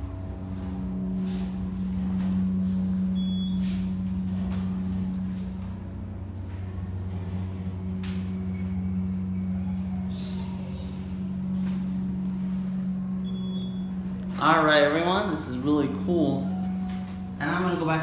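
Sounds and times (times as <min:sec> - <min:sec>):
elevator drive hum: 0:00.0 - 0:18.0.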